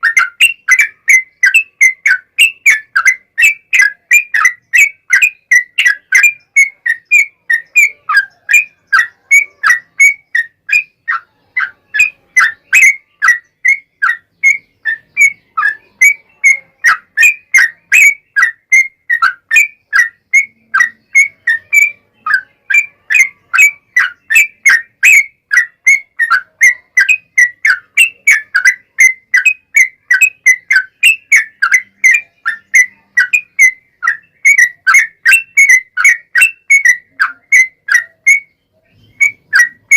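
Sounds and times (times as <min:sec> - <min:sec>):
bird singing rapid whistled notes: 0:00.0 - 0:39.9.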